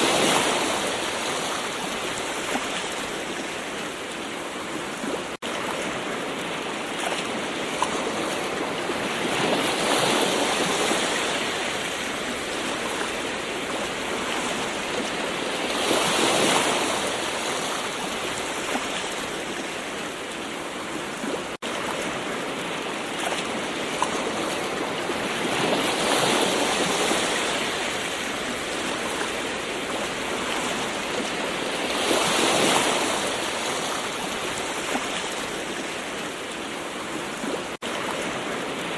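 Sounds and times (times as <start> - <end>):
ocean waves washing ashore: 0.0 - 38.9.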